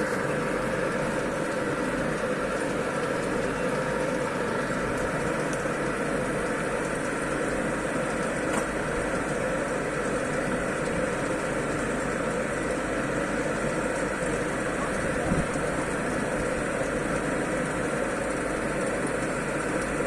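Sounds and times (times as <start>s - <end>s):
mixer machine running: 0.0s - 20.0s.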